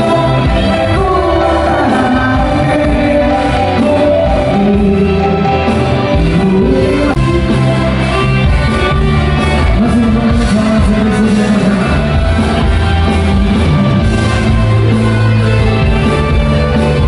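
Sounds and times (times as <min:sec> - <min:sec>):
music with sustained notes: 0:00.0 - 0:17.0.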